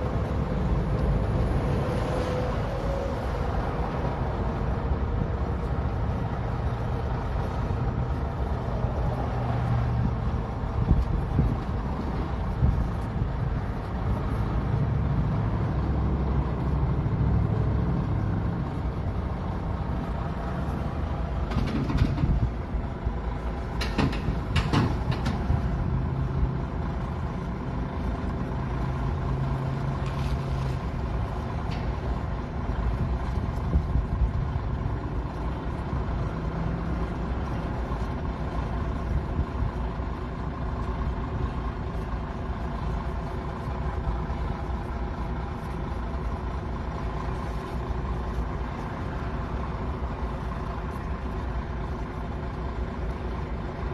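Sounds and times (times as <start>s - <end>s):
heavy diesel equipment rumbling: 0.0s - 53.9s.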